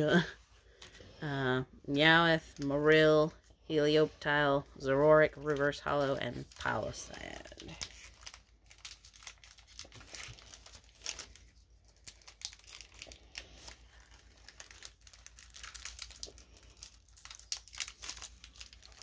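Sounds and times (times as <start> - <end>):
foil wrappers crinkling: 2.0 - 19.0.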